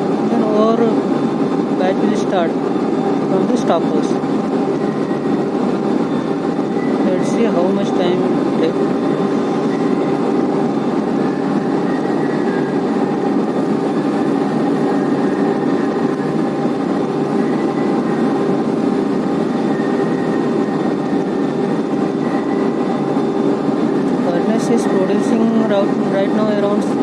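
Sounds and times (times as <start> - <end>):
continuous machinery rumble: 0.0 - 27.0
conveyor drives humming: 0.0 - 27.0.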